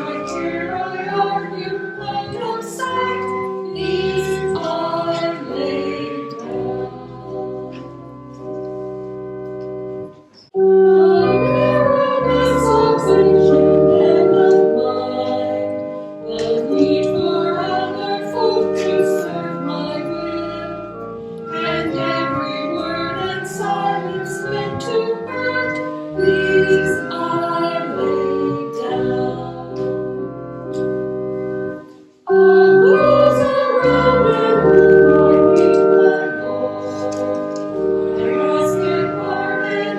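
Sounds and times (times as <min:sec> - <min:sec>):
voices singing a slow hymn: 0:00.0 - 0:07.9, 0:11.0 - 0:20.8, 0:21.4 - 0:30.0, 0:32.3 - 0:39.9
organ chords: 0:00.0 - 0:39.9.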